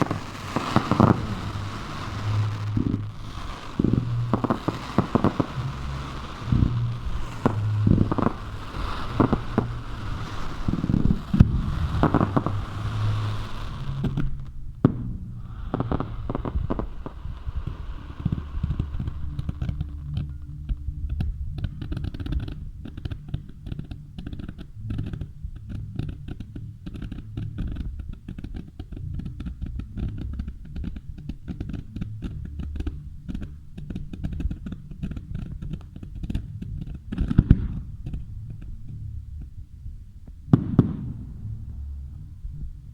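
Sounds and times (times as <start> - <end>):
fireworks bangs and crackling: 0.0 - 20.8, 26.0 - 38.6, 40.5 - 41.8
low rumble: 0.0 - 42.9.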